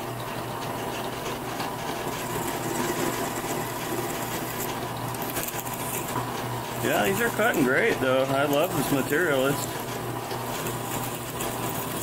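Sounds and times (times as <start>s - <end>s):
drill press motor hum: 0.0s - 12.0s
drill bit cutting steel: 2.1s - 12.0s.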